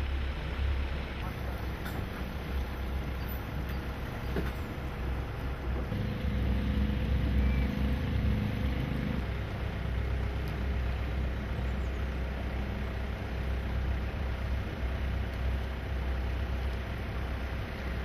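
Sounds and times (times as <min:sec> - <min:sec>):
hum: 0:00.0 - 0:18.0
motorboat engine rumbling: 0:00.0 - 0:18.0.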